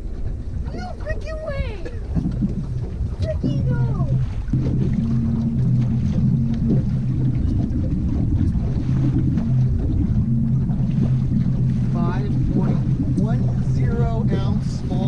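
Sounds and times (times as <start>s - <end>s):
outboard motor humming: 0.0s - 15.0s
wind rumbling on microphone: 0.0s - 15.0s.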